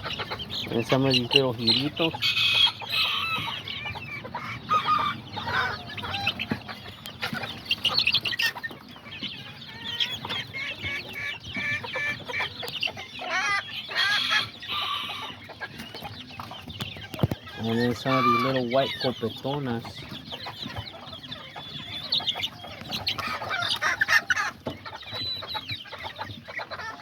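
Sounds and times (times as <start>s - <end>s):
chickens clucking and calling: 0.0s - 27.0s.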